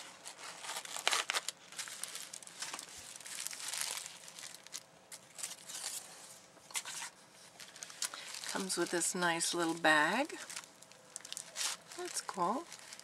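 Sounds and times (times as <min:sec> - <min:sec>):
paper packaging crinkling: 0:00.0 - 0:13.0.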